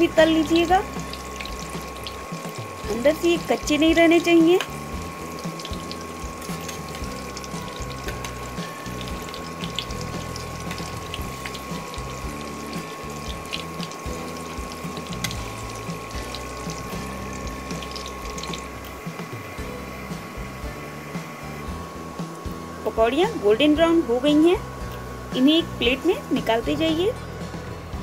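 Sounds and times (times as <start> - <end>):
food deep-frying in hot oil: 0.0 - 28.0.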